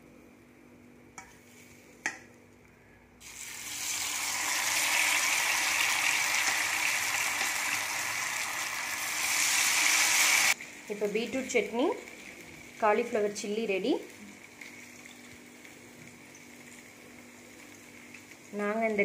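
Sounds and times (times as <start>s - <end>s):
food sizzling in hot oil: 3.2s - 19.0s.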